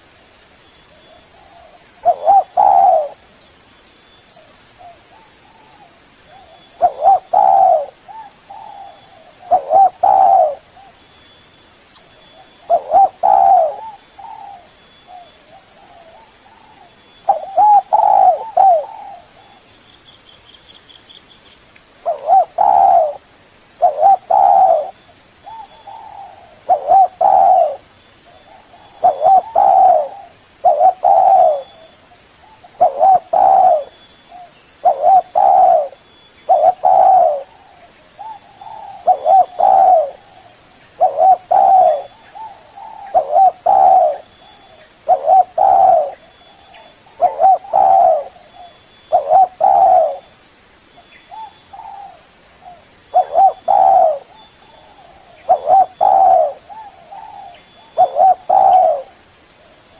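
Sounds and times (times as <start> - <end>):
dove cooing: 1.0 - 3.2, 4.8 - 11.0, 12.3 - 19.6, 22.0 - 23.2, 23.8 - 50.3, 51.3 - 59.9.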